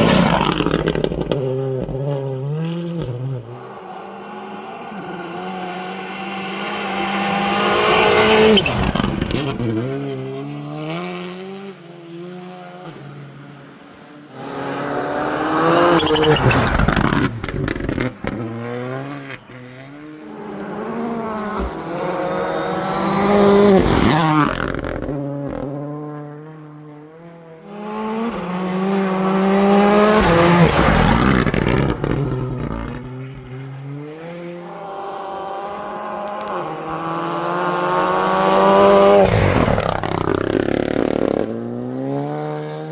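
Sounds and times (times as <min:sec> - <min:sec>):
rally cars passing at speed: 0:00.0 - 0:42.9.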